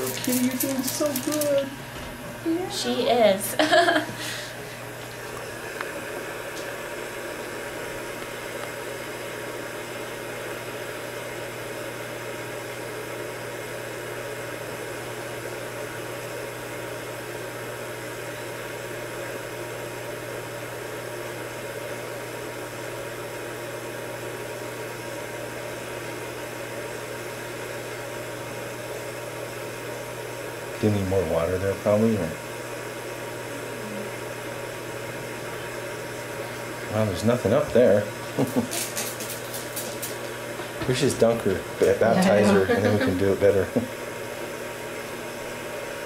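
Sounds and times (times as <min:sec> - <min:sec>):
machine room hum and hiss: 0:00.0 - 0:46.0.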